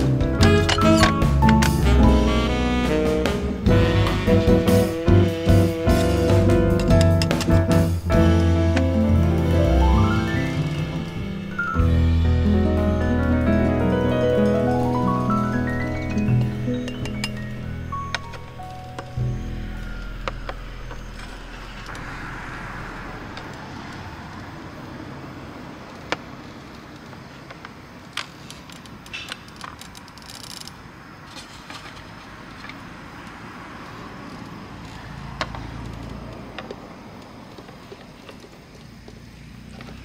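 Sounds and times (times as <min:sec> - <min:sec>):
road traffic with passing cars: 0:00.0 - 0:40.0.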